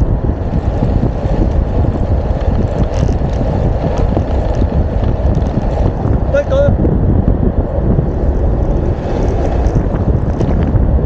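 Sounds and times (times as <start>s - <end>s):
tyres rumbling on tarmac: 0.0s - 11.0s
wind buffeting microphone: 0.0s - 11.0s.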